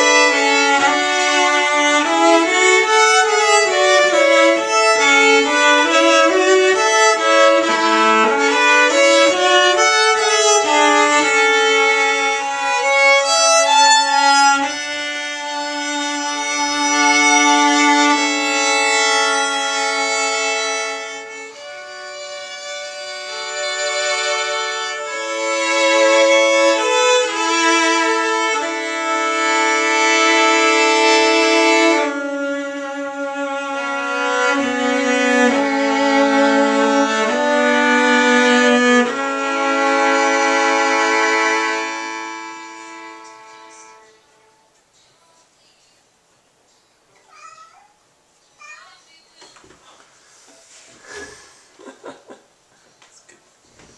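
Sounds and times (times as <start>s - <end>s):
fiddle and cello playing: 0.0s - 44.7s.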